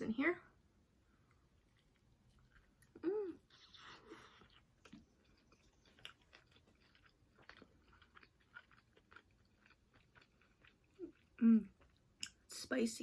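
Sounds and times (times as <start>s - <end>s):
chewing and crunching: 1.2s - 12.5s.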